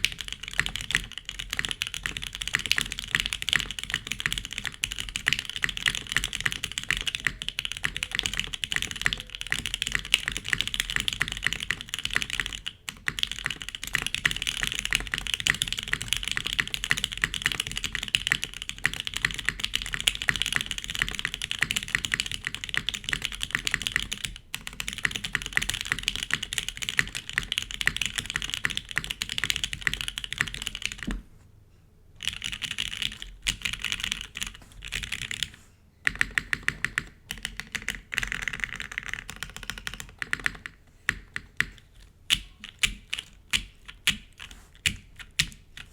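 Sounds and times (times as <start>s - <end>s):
mechanical keyboard typing: 0.0s - 31.2s, 32.2s - 45.9s.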